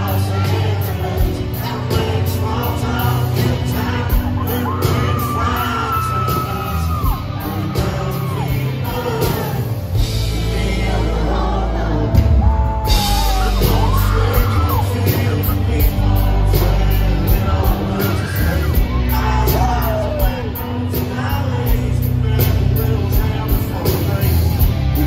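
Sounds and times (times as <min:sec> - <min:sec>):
live country band: 0:00.0 - 0:25.0
man singing: 0:00.0 - 0:25.0.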